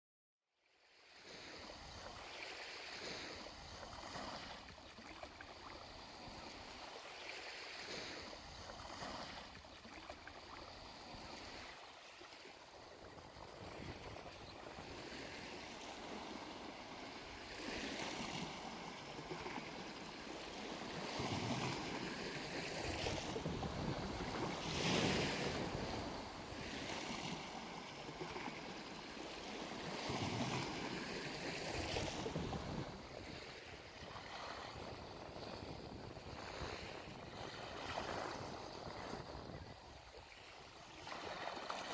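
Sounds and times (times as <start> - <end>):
waves washing onto shore: 0.8 - 41.9.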